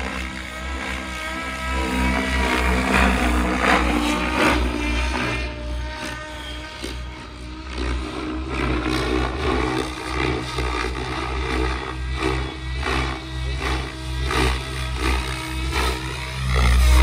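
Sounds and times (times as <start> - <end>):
rc helicopter rotor drone: 0.0 - 17.0
tail rotor tones: 0.0 - 17.0.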